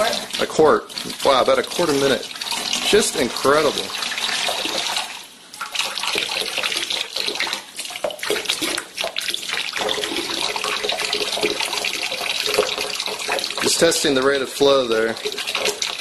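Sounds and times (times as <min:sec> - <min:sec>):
water pouring into glass jar: 0:00.0 - 0:16.0.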